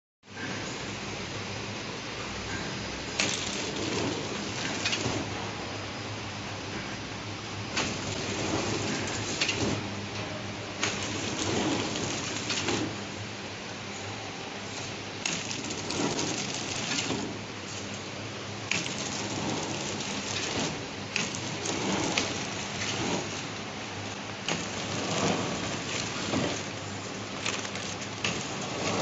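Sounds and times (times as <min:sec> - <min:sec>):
packaging machine hissing and rattling: 0:02.5 - 0:06.0, 0:06.7 - 0:29.0.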